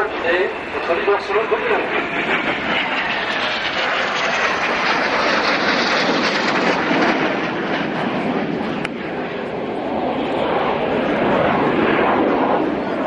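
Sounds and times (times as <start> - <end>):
jet engine whine: 0.0 - 13.0
jet roar overhead: 0.0 - 13.0.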